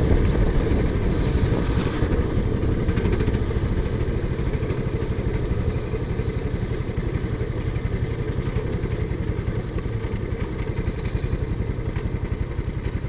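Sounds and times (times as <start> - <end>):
kart engine chugging: 0.0 - 13.0.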